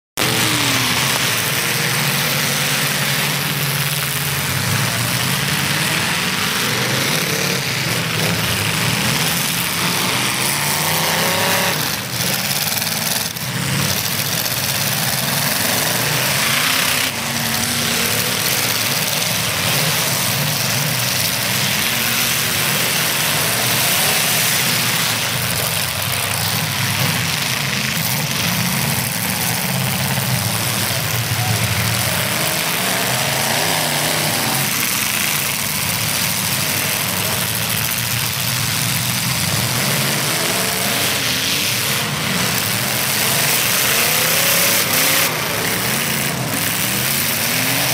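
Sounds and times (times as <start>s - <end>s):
car engines revving hard: 0.2s - 47.9s.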